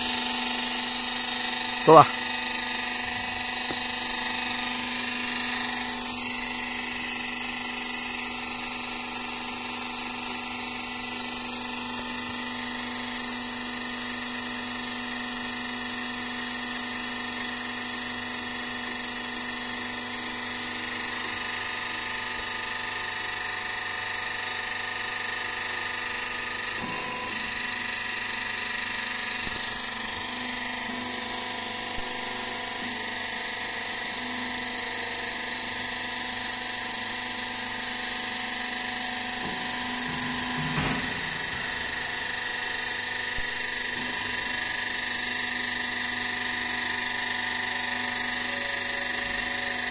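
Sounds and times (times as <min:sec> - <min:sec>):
factory machinery whine and hum: 0:00.0 - 0:15.5, 0:19.1 - 0:49.9.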